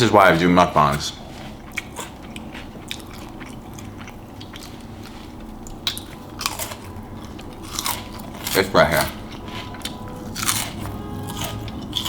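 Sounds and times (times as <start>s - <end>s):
wet mouth chewing clicks: 1.3s - 12.0s.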